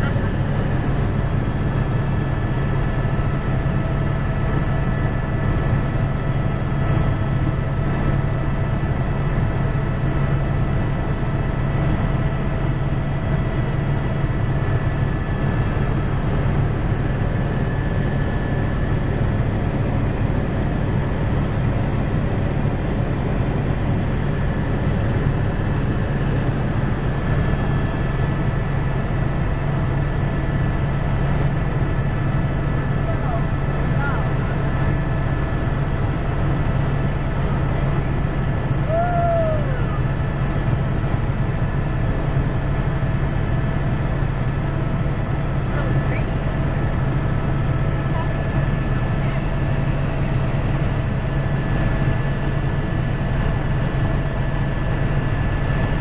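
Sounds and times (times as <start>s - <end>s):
helicopter drone: 0.0s - 56.0s.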